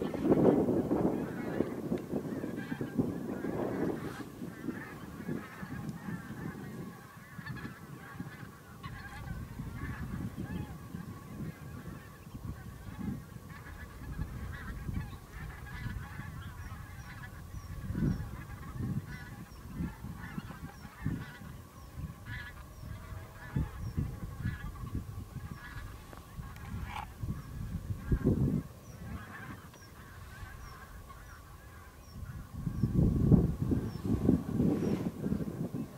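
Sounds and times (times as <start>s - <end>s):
geese honking: 0.0s - 35.9s.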